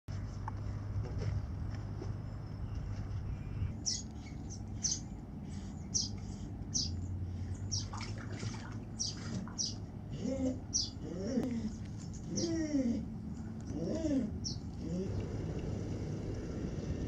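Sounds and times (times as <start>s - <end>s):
low steady hum: 0.1s - 17.0s
birds chirping: 2.2s - 16.9s.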